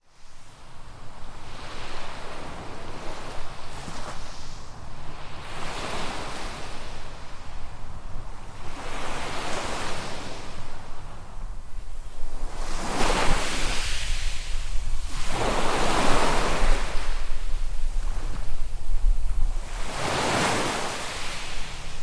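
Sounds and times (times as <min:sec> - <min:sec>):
sea waves washing onto beach: 0:01.5 - 0:22.0.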